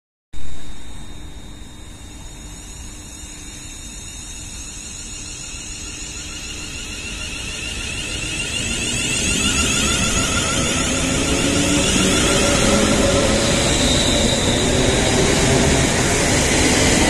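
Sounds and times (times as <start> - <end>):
electric trains rumbling on rails: 0.4 - 17.0.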